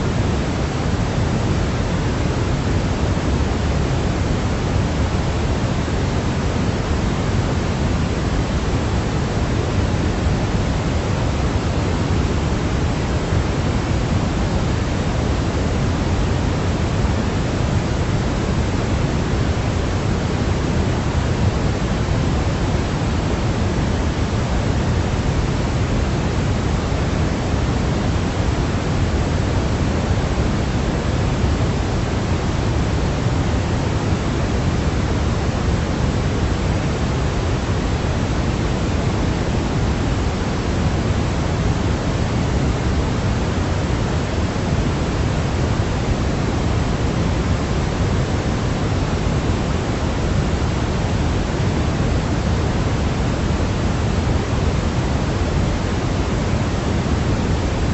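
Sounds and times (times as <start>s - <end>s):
steady pink noise hiss: 0.0s - 57.9s.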